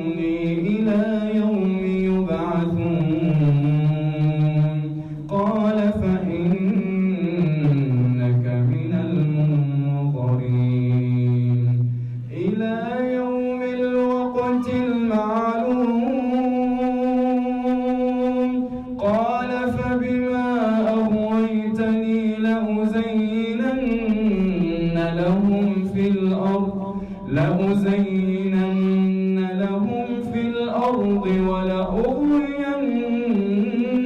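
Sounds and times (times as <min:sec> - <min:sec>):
man chanting melodically: 0:00.0 - 0:34.0.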